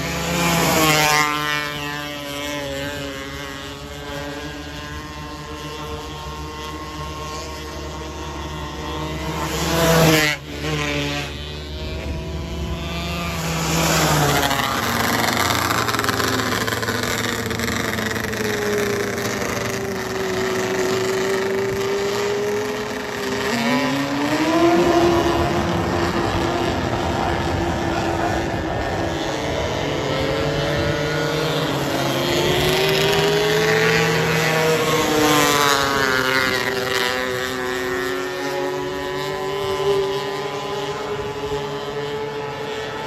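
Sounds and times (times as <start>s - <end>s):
racing car engines at high revs: 0.0s - 43.0s.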